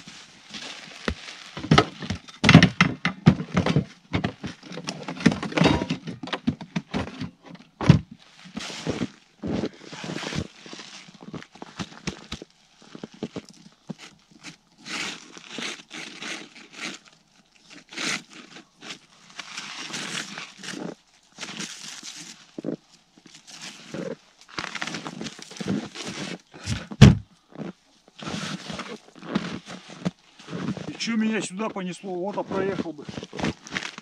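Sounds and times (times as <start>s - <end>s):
crunching in wet snow: 0.0s - 2.2s, 8.2s - 34.0s.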